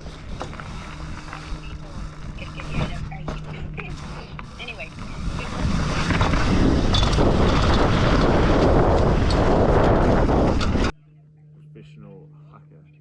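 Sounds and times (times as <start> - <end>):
heavy wind buffeting microphone: 0.0 - 10.9.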